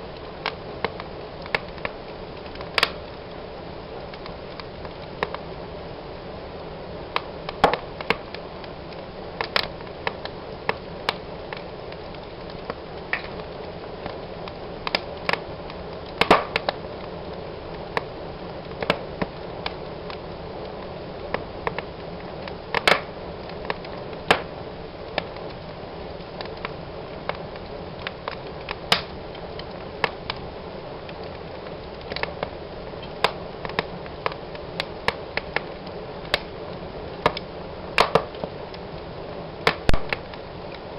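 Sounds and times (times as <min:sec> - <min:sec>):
logs crackling and popping: 0:00.0 - 0:40.9
low rush of flames: 0:00.0 - 0:40.9.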